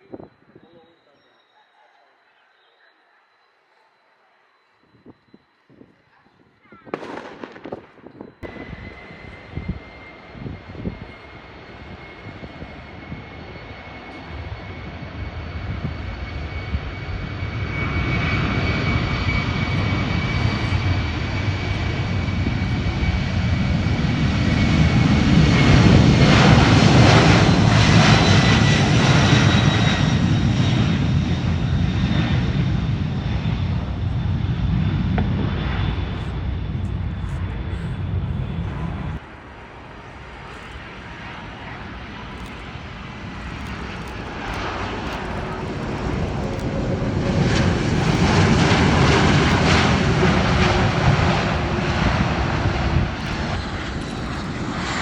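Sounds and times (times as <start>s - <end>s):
jet airliner passing: 4.4s - 55.0s
high-pitched engine whine: 8.1s - 55.0s.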